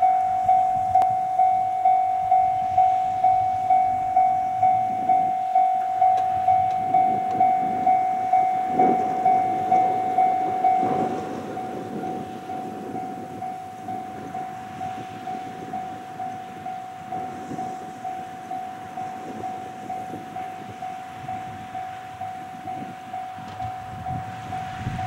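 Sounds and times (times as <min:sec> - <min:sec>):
level crossing bell ringing: 0:00.0 - 0:24.2.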